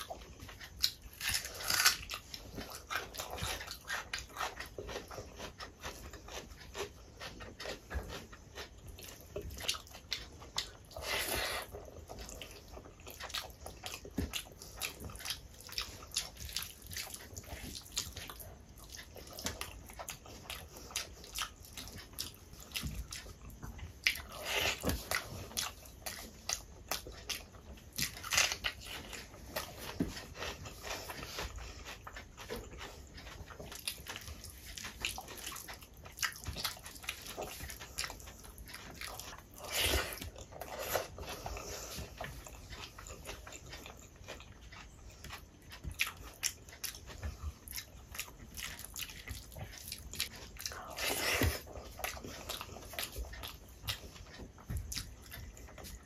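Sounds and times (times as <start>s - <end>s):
chewing and mouth smacking: 0.0s - 56.0s.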